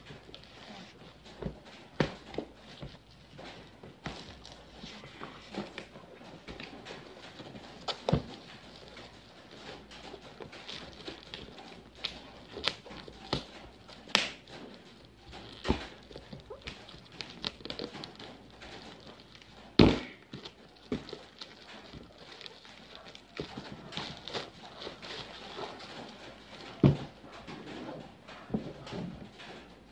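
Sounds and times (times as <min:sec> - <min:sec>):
plastic packing crinkling and tearing: 0:00.0 - 0:29.9.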